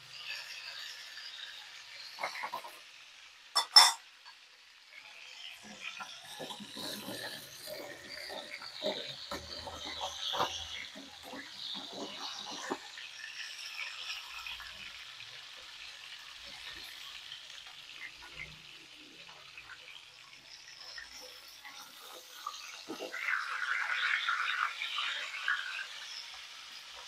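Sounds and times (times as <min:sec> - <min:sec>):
fish sizzling in hot oil: 0:00.0 - 0:27.0.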